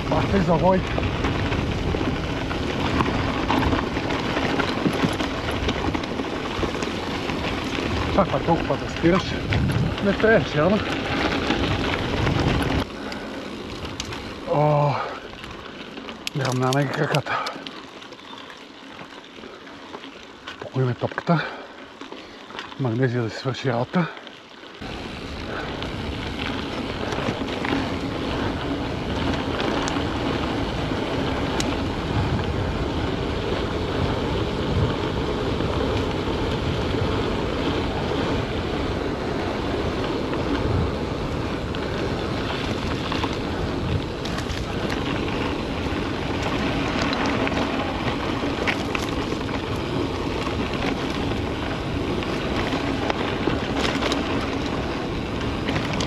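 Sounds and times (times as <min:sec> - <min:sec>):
wind buffeting microphone: 0:00.0 - 0:15.7, 0:24.8 - 0:56.0
mountain bike rolling on trail: 0:00.0 - 0:56.0.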